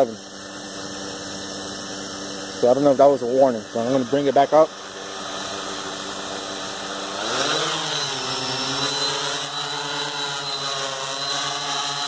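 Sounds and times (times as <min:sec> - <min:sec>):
drone propellers humming: 0:00.0 - 0:12.0.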